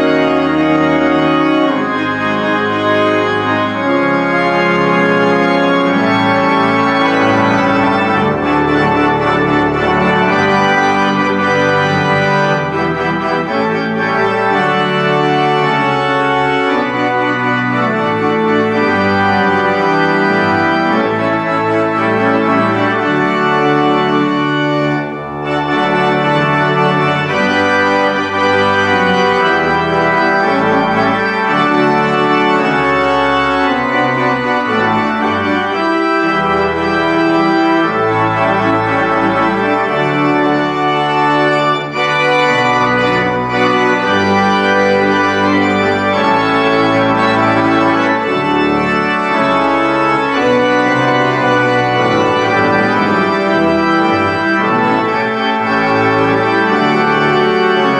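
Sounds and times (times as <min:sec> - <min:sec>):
pipe organ playing chords: 0:00.0 - 0:57.9.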